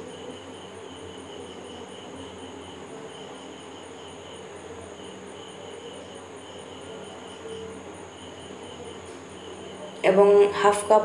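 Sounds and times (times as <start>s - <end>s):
crickets chirping: 0.0s - 11.0s
faint low hum: 0.0s - 11.0s.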